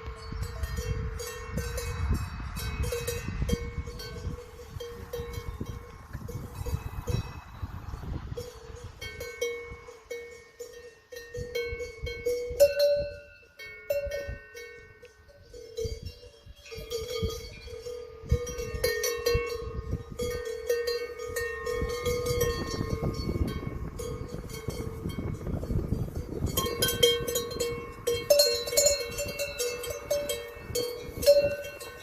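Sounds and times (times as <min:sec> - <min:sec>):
cattle bells clanking: 0:00.0 - 0:32.0.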